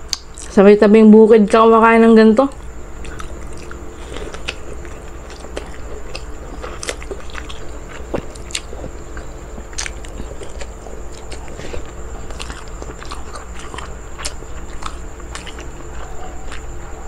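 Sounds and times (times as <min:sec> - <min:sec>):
close-up chewing: 0:02.5 - 0:17.0.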